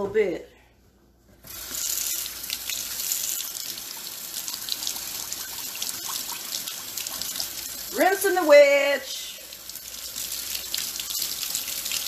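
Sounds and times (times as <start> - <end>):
faucet running: 1.5 - 12.0.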